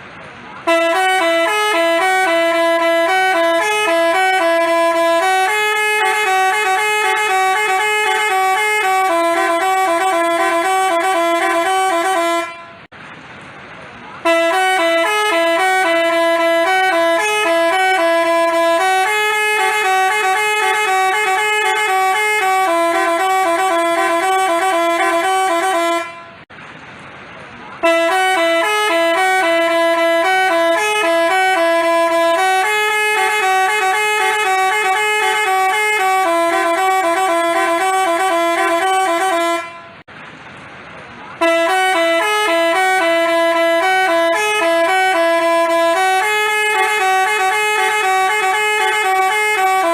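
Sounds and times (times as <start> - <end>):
multi-tone bus horn melody: 0.4 - 12.9, 14.2 - 26.5, 27.8 - 40.1, 41.4 - 49.9.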